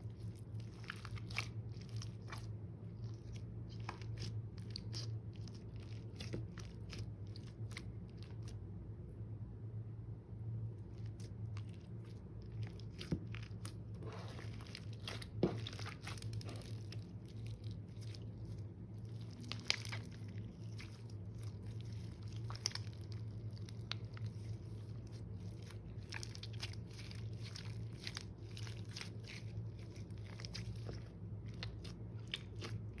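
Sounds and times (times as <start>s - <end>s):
hands squishing slime: 0.0s - 8.7s, 10.6s - 33.0s
steady low hum: 0.0s - 33.0s.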